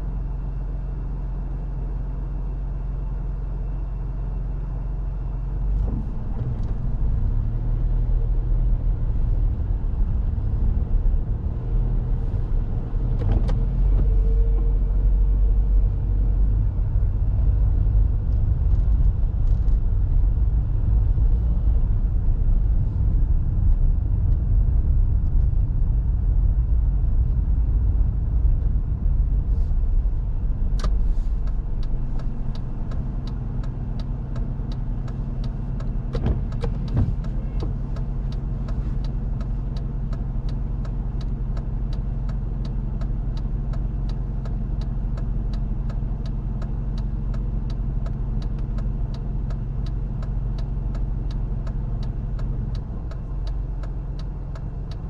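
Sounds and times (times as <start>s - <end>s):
road and engine noise: 0.0s - 55.0s.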